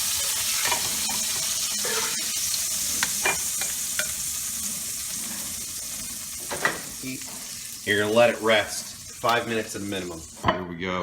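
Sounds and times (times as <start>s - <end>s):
steaks sizzling in skillet: 0.0s - 10.5s.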